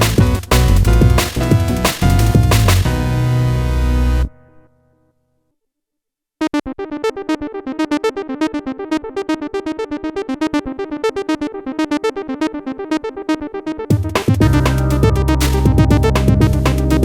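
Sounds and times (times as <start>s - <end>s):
synthesizer playing fast sequenced notes: 0.0s - 4.3s, 6.8s - 17.0s.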